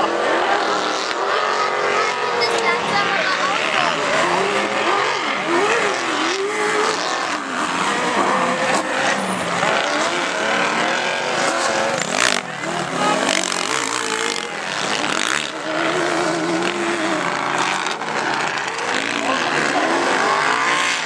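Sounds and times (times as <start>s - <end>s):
off-road engines revving: 0.0s - 21.0s.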